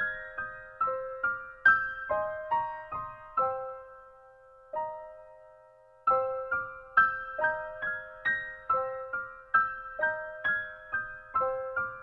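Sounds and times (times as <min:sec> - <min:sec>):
soft slow piano melody: 0:00.0 - 0:12.0.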